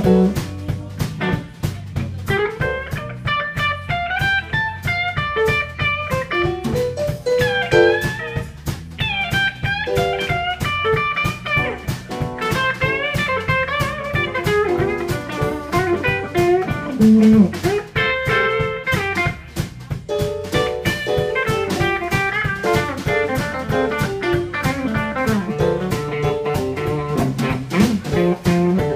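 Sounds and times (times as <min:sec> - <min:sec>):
drum kit beat: 0:00.0 - 0:28.9
electric guitar lead lines: 0:02.3 - 0:28.9.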